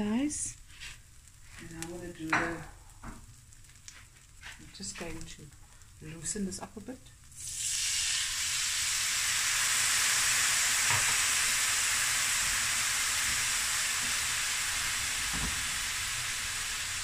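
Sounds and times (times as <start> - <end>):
pan sizzling and hissing: 0.0 - 17.0.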